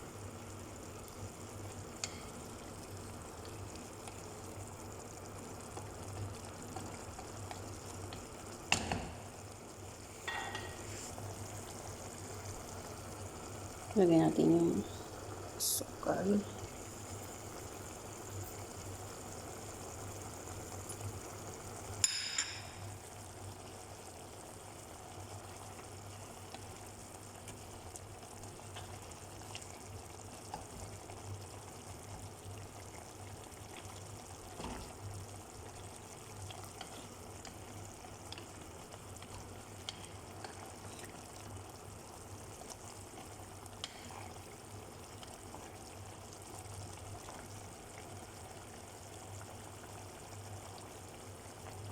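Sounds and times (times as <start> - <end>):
food simmering and sizzling in a pan: 0.0 - 51.9.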